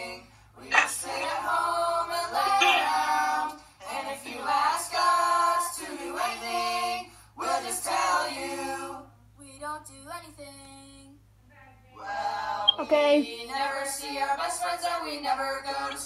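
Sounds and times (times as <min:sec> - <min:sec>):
adults and children singing: 0:00.0 - 0:09.1, 0:12.0 - 0:16.0
faint low hum: 0:00.0 - 0:16.0.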